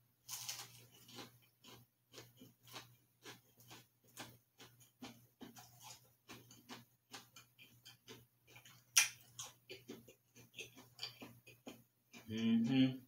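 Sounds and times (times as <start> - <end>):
person chewing cookie: 0.2 - 13.0.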